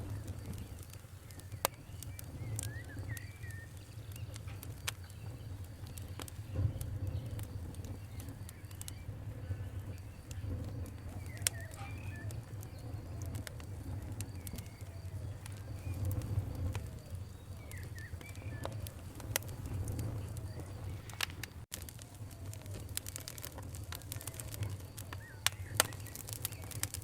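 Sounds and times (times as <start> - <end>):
birds chirping: 0.0 - 21.6, 22.4 - 27.0
low rumble: 0.0 - 25.9
campfire crackling and popping: 0.0 - 27.0.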